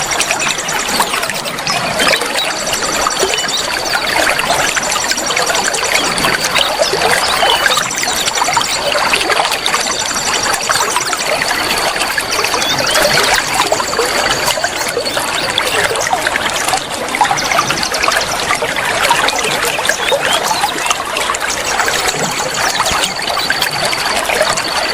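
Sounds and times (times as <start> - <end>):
water trickling and splashing: 0.0 - 24.9.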